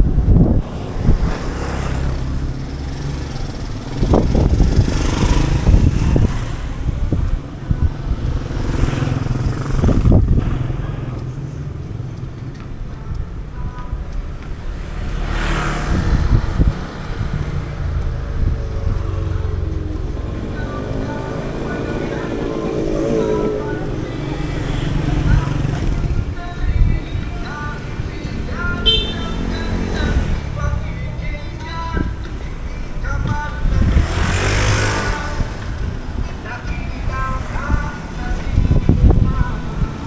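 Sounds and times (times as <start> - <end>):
street traffic engine rumble: 0.0 - 40.0
vehicles passing close: 0.0 - 40.0.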